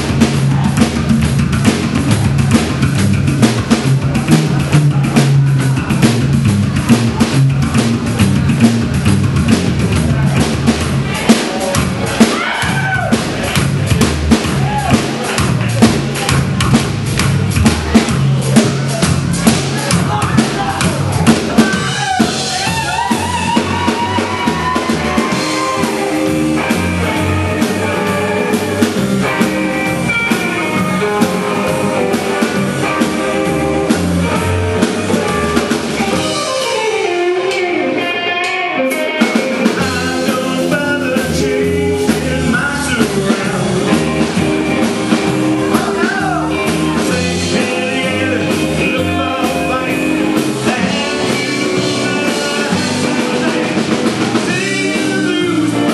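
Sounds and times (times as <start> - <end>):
drum kit: 0.0 - 55.9
electric guitars: 0.0 - 55.9
upright bass: 0.0 - 55.9.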